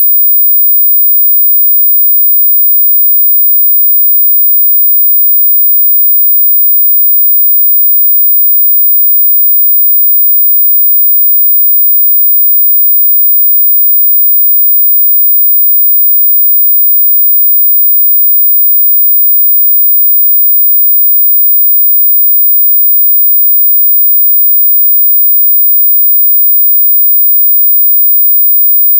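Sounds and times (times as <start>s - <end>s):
high-pitched whistle tone: 0.0s - 28.9s.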